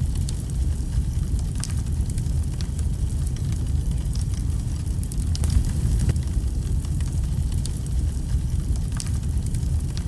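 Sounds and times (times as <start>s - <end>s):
logs crackling and popping: 0.0s - 10.0s
wood fire burning: 0.0s - 10.0s.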